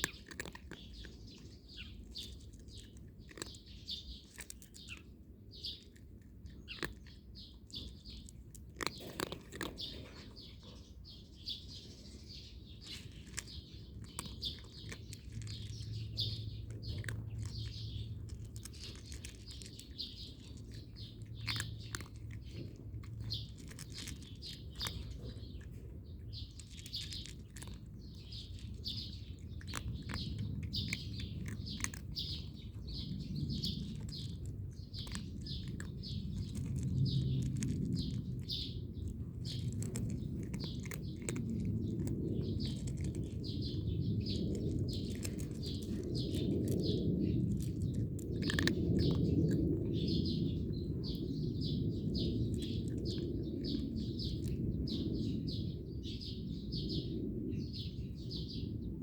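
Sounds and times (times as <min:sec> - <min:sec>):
cat crunching dry kibble: 0:00.0 - 0:57.2
small birds chirping: 0:00.0 - 0:59.0.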